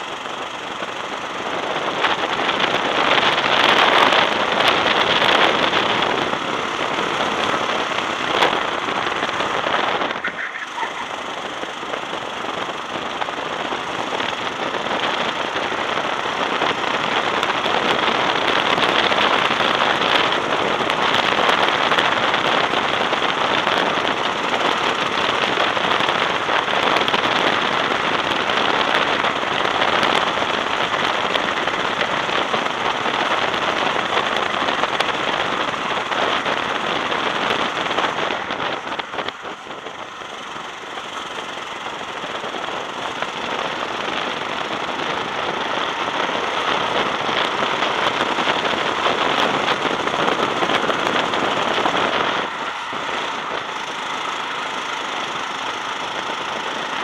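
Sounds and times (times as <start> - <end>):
go-kart engine running hard: 0.0 - 57.0
wind rush: 0.0 - 57.0.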